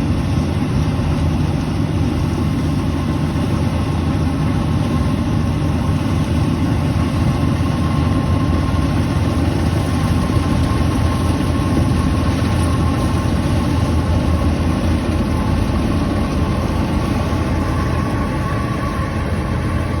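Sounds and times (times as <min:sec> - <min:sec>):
diesel engine running: 0:00.0 - 0:20.0
faint steady whine: 0:00.0 - 0:20.0.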